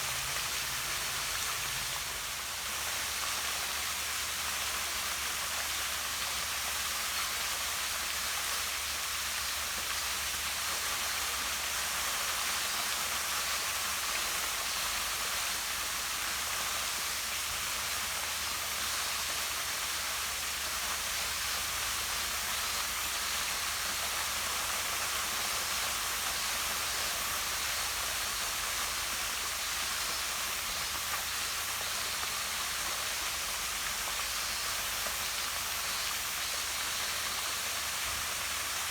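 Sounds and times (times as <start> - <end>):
waterfall pouring into a pond: 0.0 - 38.9.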